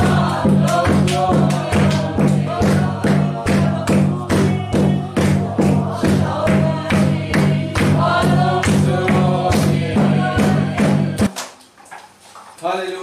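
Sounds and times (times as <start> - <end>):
congregation singing a hymn: 0.0 - 11.3
hand-clapping on a beat: 0.0 - 11.8.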